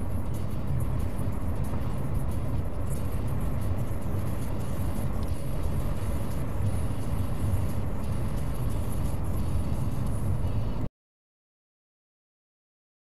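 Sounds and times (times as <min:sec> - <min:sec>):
vehicle engine and tyre noise: 0:00.0 - 0:10.9.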